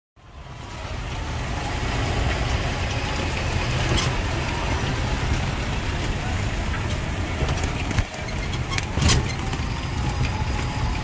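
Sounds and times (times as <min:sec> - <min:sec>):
vehicle engine rumbling: 0:00.2 - 0:11.0.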